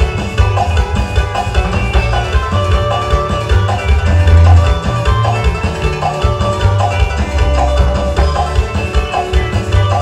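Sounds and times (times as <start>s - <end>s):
latin dance music: 0.0s - 10.0s.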